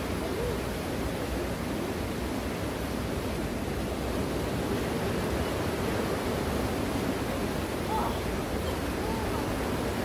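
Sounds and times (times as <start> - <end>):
small waves washing on beach: 0.0 - 10.0.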